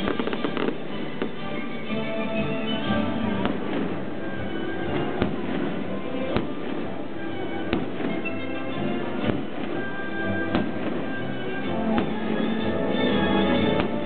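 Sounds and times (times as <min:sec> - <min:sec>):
fireworks bursting: 0:00.0 - 0:14.0
music playing: 0:00.0 - 0:14.0.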